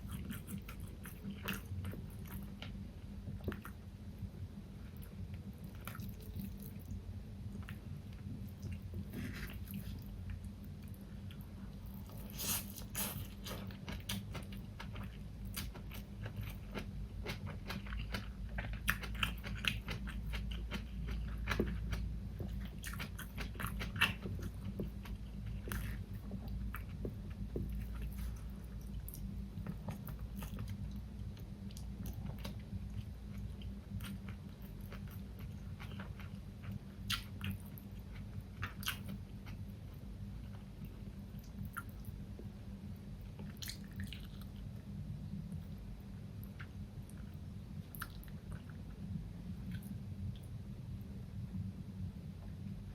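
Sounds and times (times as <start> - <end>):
person chewing food: 0.0 - 3.8, 4.8 - 42.4, 43.3 - 44.9, 46.4 - 50.5
steady low hum: 0.0 - 52.9.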